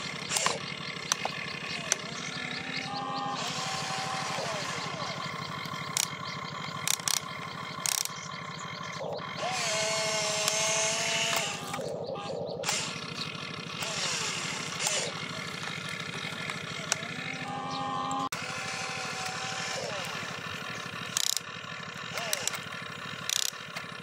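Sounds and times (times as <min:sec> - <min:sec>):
sharp clicks: 0:00.0 - 0:18.3, 0:20.8 - 0:23.9
high motor whine: 0:00.0 - 0:24.0
toy excavator motors whirring: 0:00.0 - 0:24.0.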